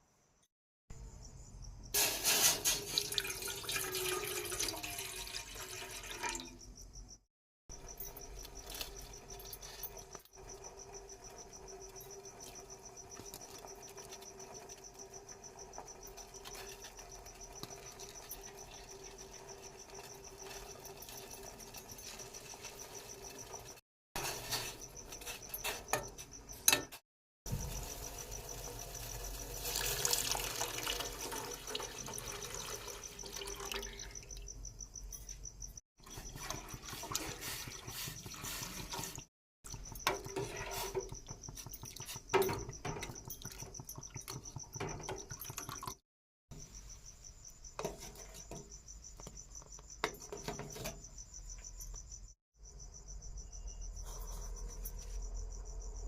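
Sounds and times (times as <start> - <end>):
cricket chirping: 0.0 - 2.0, 3.2 - 26.9, 27.5 - 56.0.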